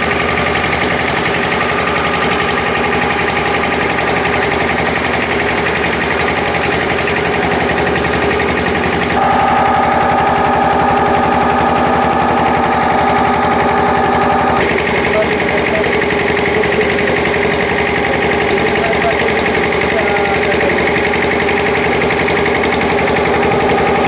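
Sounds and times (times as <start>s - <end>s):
engine knocking: 0.0s - 24.0s.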